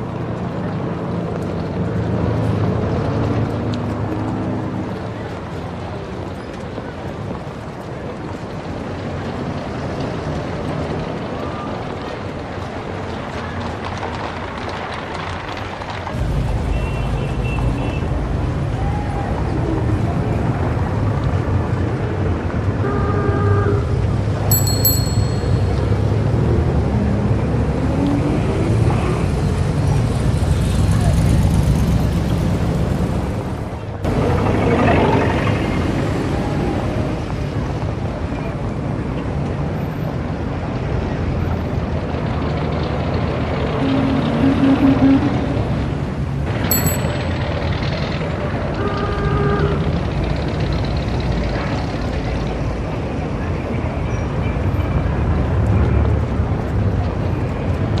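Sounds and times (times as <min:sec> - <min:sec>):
dense traffic din: 0:00.0 - 0:58.0.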